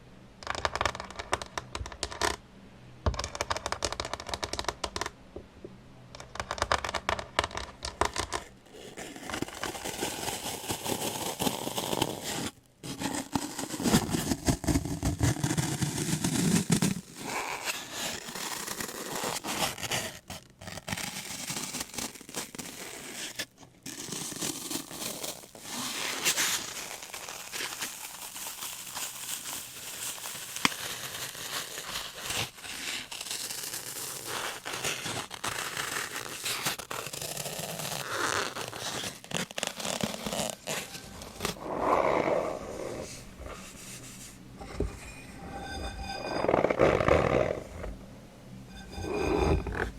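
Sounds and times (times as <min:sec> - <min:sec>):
scratching and scraping: 0:00.4 - 0:02.4, 0:03.1 - 0:05.1, 0:06.1 - 0:49.9
objects crinkling: 0:06.2 - 0:48.0.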